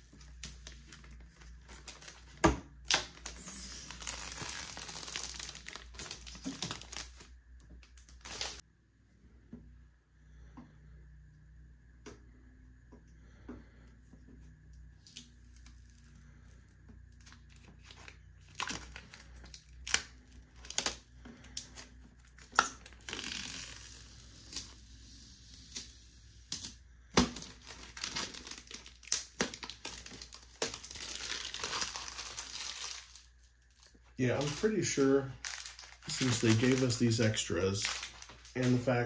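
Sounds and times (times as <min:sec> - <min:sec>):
plastic film peeling and crackling: 0:00.0 - 0:08.6, 0:15.0 - 0:39.0.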